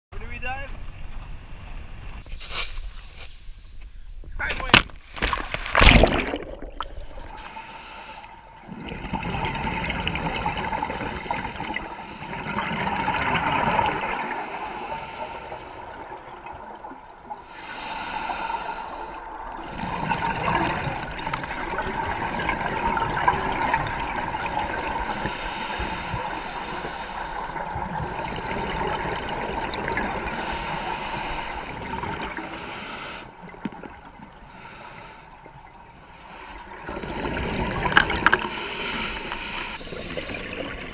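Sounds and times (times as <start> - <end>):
underwater bubbles gurgling: 5.7 - 40.9.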